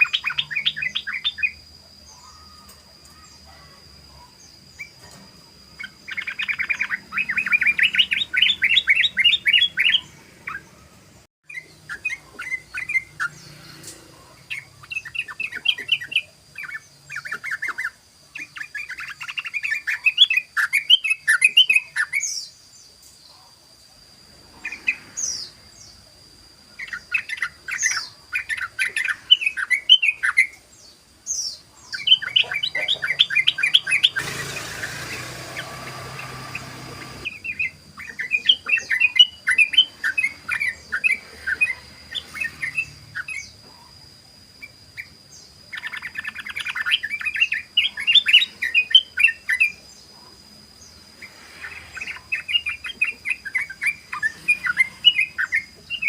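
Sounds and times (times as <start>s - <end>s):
bird chattering song: 0.0s - 23.5s, 26.7s - 56.0s.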